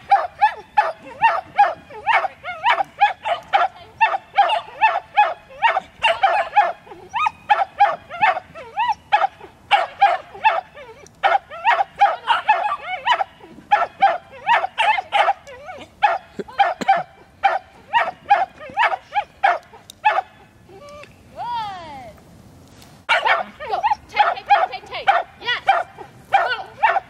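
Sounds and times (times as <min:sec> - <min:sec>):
dog barking: 0:00.1 - 0:08.5, 0:09.1 - 0:20.4, 0:23.1 - 0:27.0.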